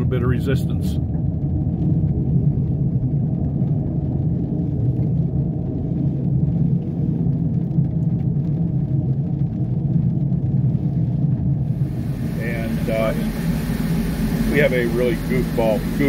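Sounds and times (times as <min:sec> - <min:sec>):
vehicle engine rumble from inside: 0:00.0 - 0:16.0.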